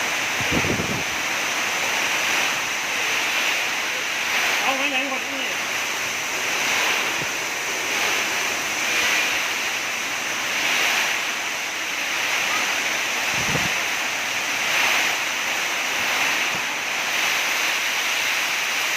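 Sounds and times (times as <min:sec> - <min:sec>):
heavy rain: 0:00.0 - 0:18.9
strong gusting wind: 0:00.0 - 0:18.9.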